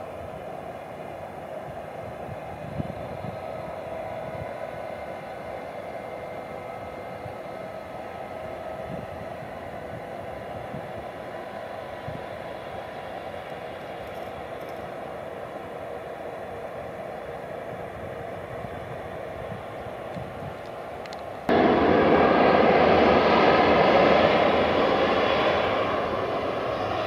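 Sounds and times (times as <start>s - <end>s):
distant jet engines roaring: 0.0s - 27.0s.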